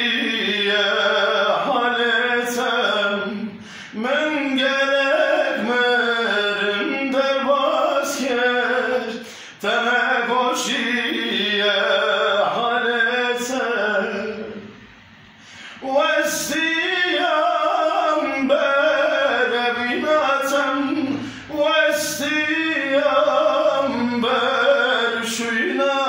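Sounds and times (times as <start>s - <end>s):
man singing a cappella: 0.0s - 14.8s, 15.4s - 26.0s.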